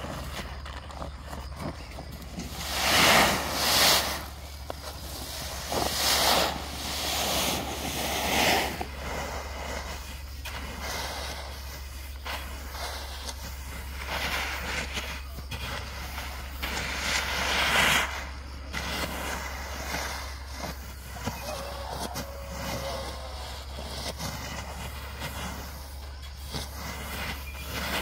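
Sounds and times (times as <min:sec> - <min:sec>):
steady low hum: 0:00.0 - 0:28.0
rice grains swishing across tarp: 0:01.9 - 0:28.0.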